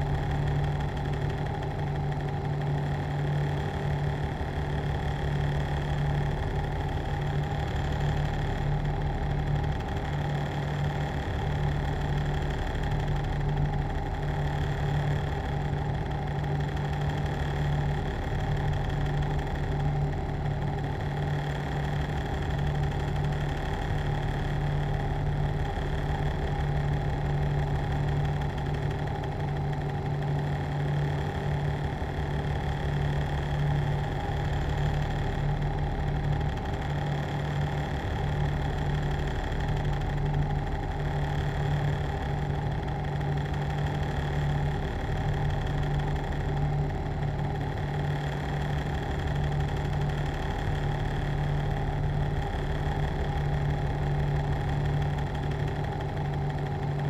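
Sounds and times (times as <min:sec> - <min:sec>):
machine humming with low drone: 0:00.0 - 0:57.0.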